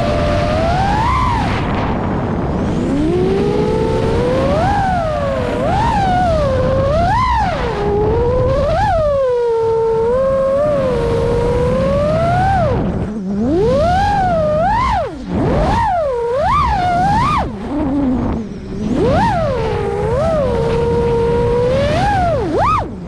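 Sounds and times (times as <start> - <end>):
drone motors whining: 0.0 - 23.0
low rush of wind: 0.0 - 23.0.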